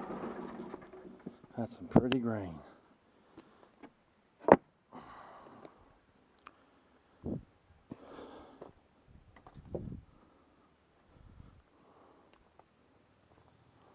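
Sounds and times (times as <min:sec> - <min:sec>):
insects chirring: 0:00.0 - 0:13.9.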